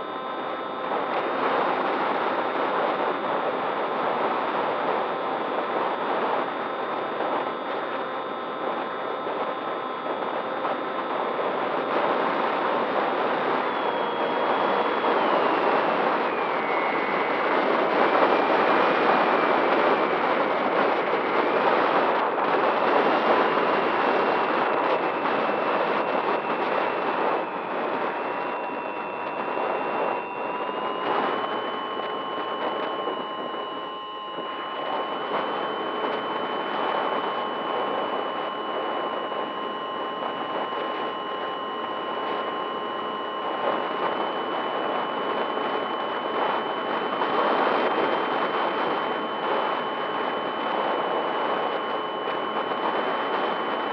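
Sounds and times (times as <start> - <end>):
wind rush: 0.0 - 53.9.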